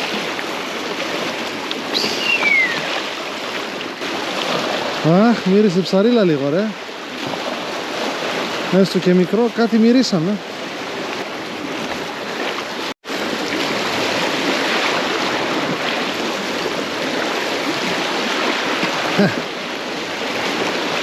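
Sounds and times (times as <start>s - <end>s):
sea water washing around rocks: 0.0s - 9.2s, 9.8s - 21.0s.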